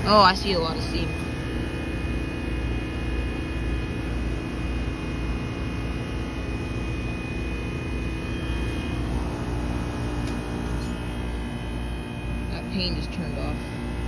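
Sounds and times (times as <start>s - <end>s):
heat pump low hum: 0.0s - 14.0s.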